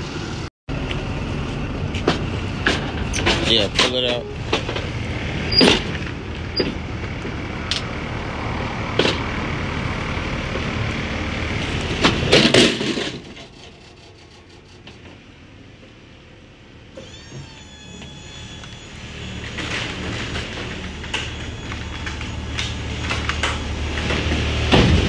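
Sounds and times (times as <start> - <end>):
diesel engine running: 0.0 - 25.0
engine knocks and clicks: 0.7 - 16.0, 17.0 - 25.0.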